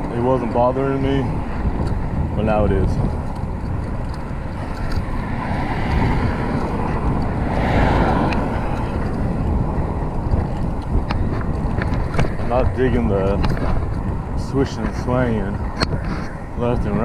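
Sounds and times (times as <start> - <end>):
bike tyre noise: 0.0 - 17.0
wind rushing over microphone: 0.0 - 17.0.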